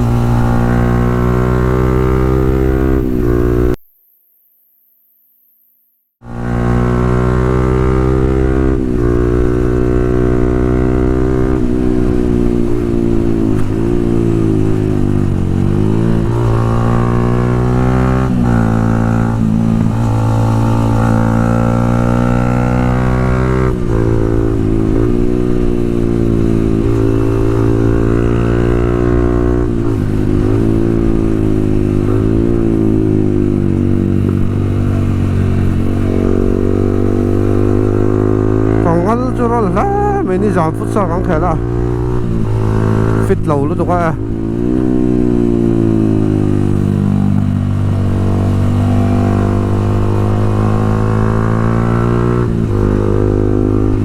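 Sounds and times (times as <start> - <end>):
motorcycle engine revving: 0.0 - 3.8, 6.2 - 54.0.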